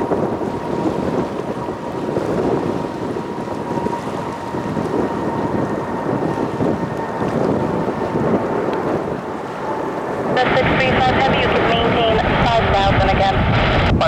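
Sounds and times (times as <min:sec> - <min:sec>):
jet engines at takeoff power: 0:00.0 - 0:14.0
wind buffeting microphone: 0:00.0 - 0:14.0.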